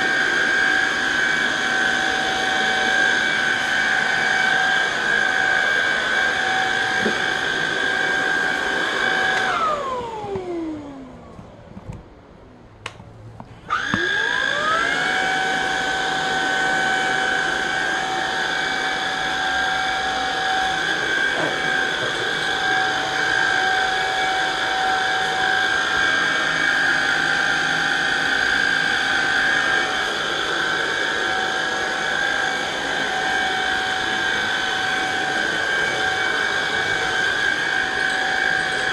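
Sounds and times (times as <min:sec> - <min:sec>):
vacuum cleaner motor whining: 0:00.0 - 0:12.1, 0:13.4 - 0:38.9.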